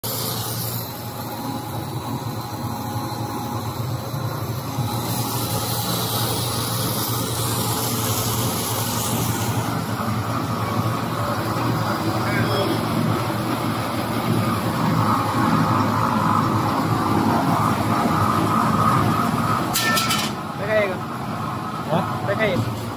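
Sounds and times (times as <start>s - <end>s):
motor hum: 0.0s - 22.9s.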